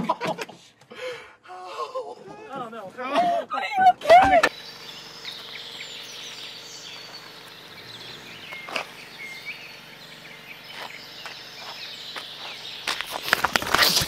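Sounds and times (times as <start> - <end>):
steady outdoor hiss: 0.3 - 14.0.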